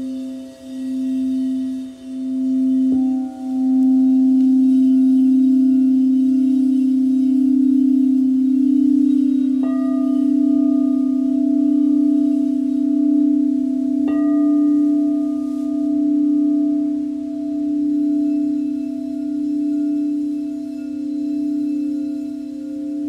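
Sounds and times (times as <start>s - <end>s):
singing bowl drone: 0.0s - 23.0s
singing bowl struck: 0.0s - 23.0s.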